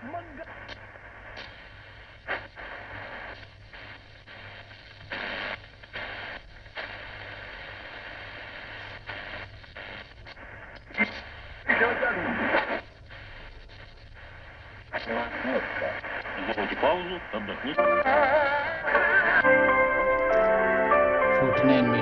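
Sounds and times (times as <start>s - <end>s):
radio static and hiss: 0.0s - 20.6s, 21.4s - 22.0s.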